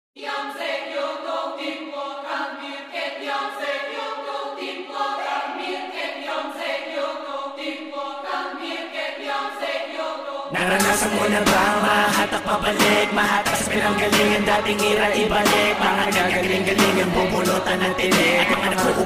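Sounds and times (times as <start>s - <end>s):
choir singing chords: 0.2s - 19.0s.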